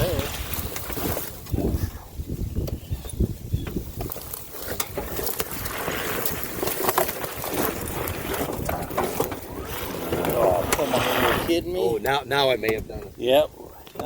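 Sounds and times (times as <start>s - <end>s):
tyres in mud: 0.0s - 14.0s.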